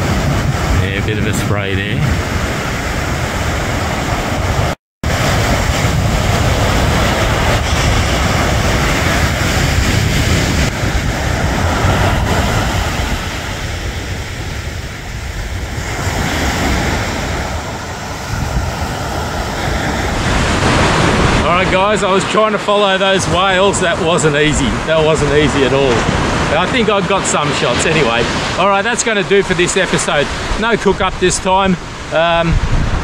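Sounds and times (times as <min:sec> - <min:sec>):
ocean surf: 0:00.0 - 0:33.0
wind buffeting microphone: 0:00.0 - 0:33.0.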